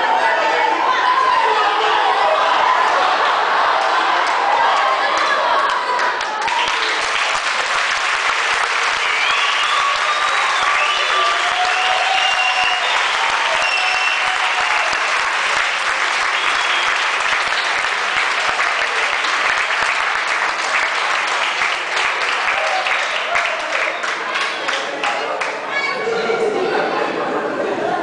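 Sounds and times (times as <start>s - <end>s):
audience applauding: 2.6s - 25.9s.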